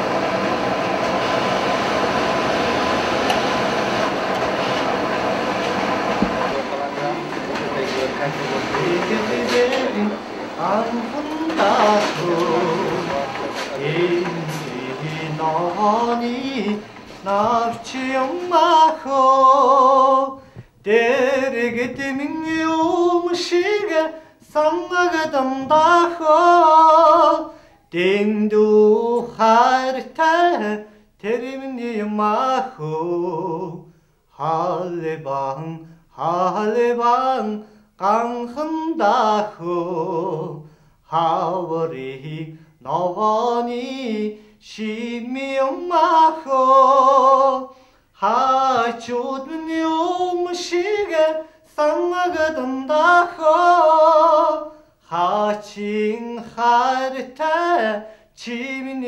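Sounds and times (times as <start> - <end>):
person singing unaccompanied: 6.2 - 59.0.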